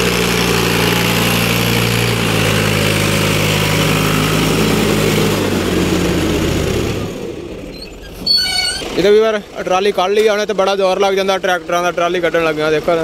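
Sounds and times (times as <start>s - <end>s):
diesel tractor engine under load: 0.0s - 13.0s.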